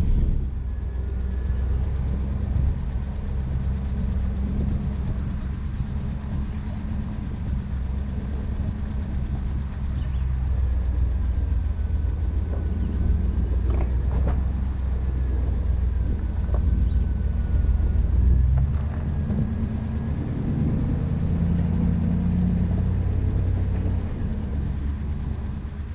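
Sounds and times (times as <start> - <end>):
vehicle engine rumbling: 0.0 - 25.9.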